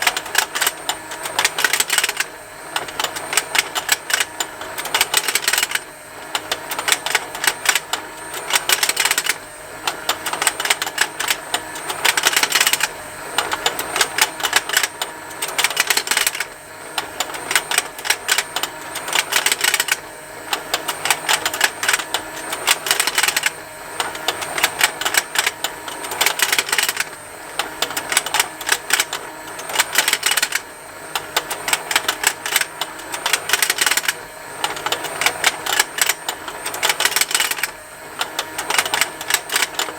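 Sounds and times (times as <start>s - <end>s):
toy motor and gears ticking: 0.0s - 39.9s.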